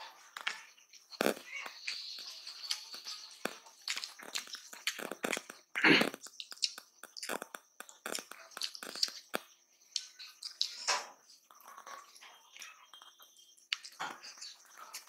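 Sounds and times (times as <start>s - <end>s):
chewing: 0.1s - 15.0s.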